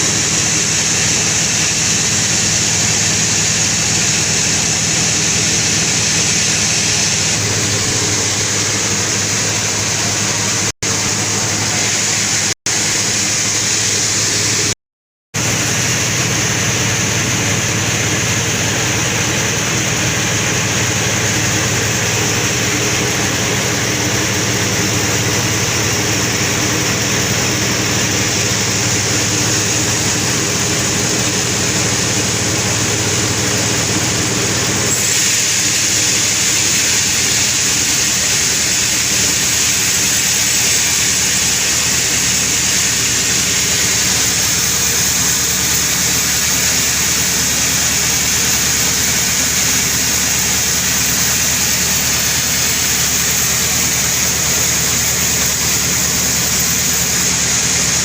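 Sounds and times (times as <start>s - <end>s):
sawmill saw cutting log: 0.0s - 14.8s, 15.4s - 58.0s.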